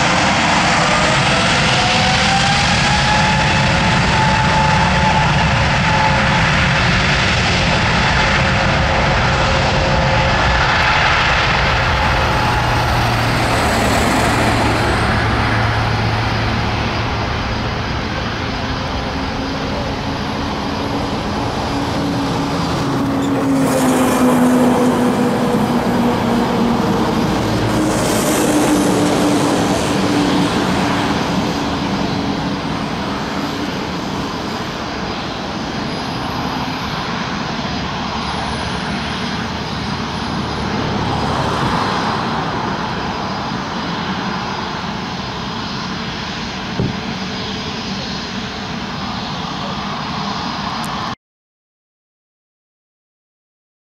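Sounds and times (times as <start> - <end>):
jet engines at takeoff: 0.0 - 51.2.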